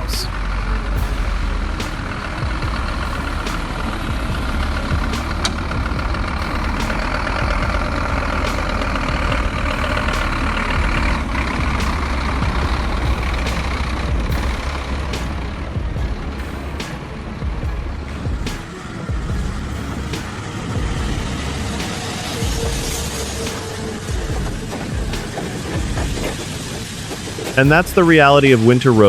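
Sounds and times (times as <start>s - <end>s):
heavy vehicle engine rumbling: 0.0s - 29.0s.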